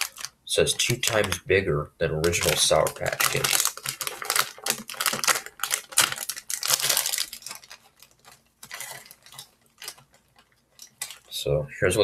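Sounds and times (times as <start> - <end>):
plastic bag crinkling: 0.0 - 1.5, 2.2 - 11.5.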